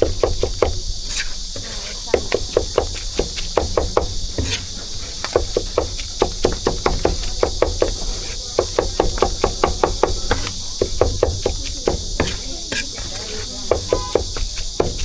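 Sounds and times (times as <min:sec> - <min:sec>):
cleaver chopping on wooden board: 0:00.0 - 0:15.0
high hiss: 0:00.0 - 0:15.0.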